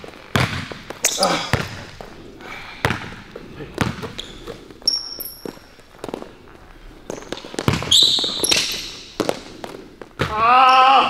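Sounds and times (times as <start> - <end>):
basketball bouncing: 0.0 - 2.1, 2.8 - 6.3, 7.1 - 10.5.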